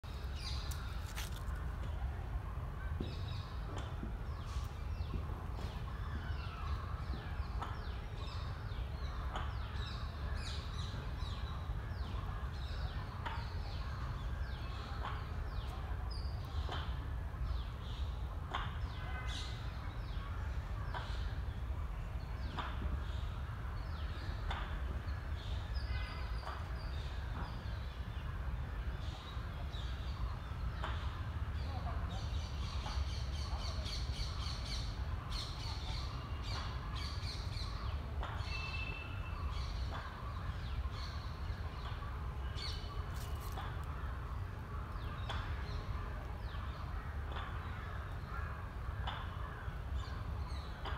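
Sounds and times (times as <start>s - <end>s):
birds chirping and calling: 3.0s - 50.9s.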